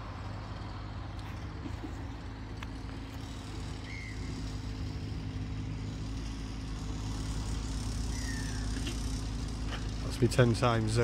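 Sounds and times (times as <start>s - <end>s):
motorised bike engine idling: 0.0s - 11.0s.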